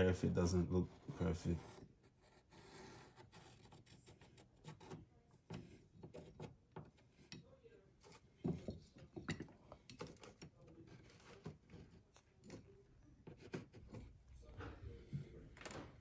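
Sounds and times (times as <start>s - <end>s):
marker scraping on ceramic tiles: 0.0s - 14.2s
tiles clicking and rubbing: 0.4s - 16.0s.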